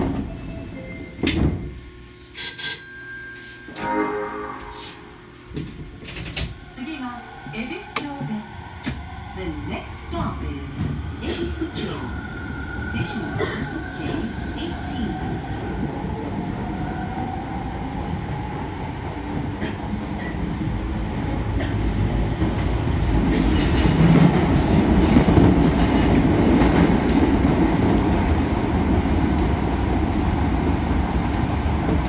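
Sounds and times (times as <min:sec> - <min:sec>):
subway train running rumble: 0:00.0 - 0:32.0.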